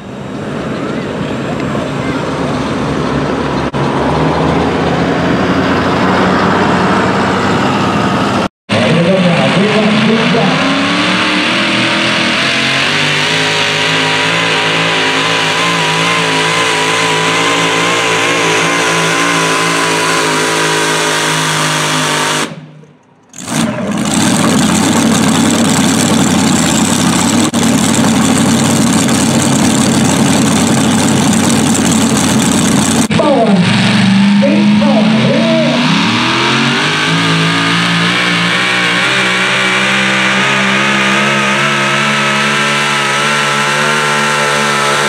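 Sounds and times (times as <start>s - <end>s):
supercharged engine revving under load: 0.0s - 45.0s.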